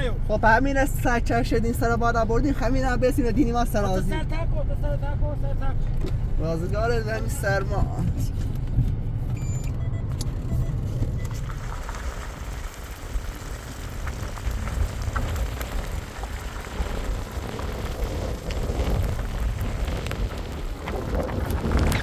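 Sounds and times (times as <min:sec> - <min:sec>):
blizzard wind buffeting microphone: 0:00.0 - 0:22.0
crackles and ticks: 0:02.5 - 0:22.0.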